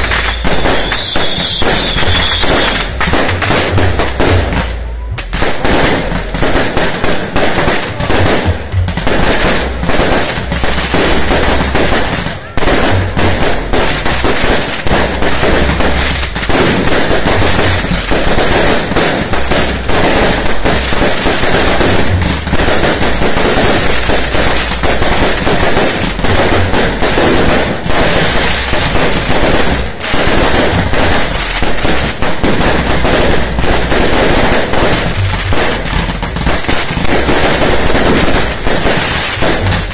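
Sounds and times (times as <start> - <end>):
firecrackers banging and crackling: 0.0 - 39.9.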